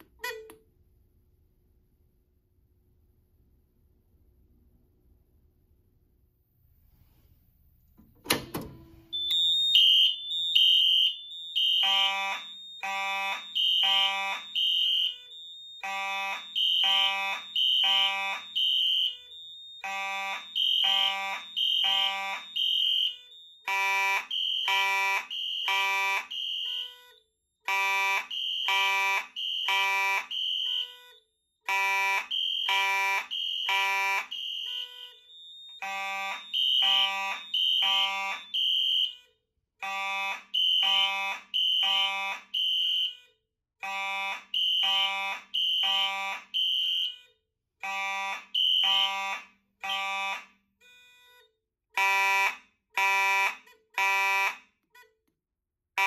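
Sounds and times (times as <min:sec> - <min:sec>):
fire alarm horns blasting: 0:09.0 - 0:55.1.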